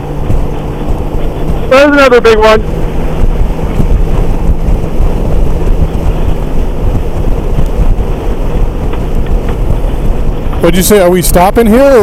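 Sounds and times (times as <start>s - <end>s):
motorcycle engine drone: 0.0s - 12.0s
wind rushing on microphone: 0.0s - 12.0s.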